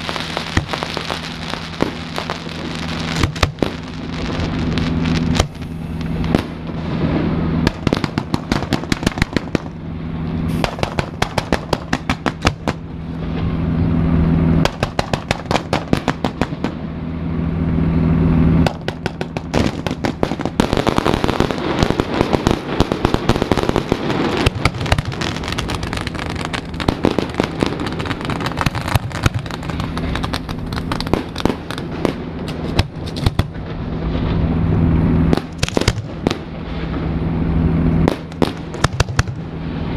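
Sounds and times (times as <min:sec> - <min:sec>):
fireworks bursts and bangs: 0:00.0 - 0:09.8, 0:10.5 - 0:13.5, 0:14.6 - 0:16.9, 0:18.6 - 0:34.5, 0:35.3 - 0:37.2, 0:38.0 - 0:39.9
boat engine low hum: 0:00.0 - 0:39.9
dense fireworks crackling: 0:00.0 - 0:39.9.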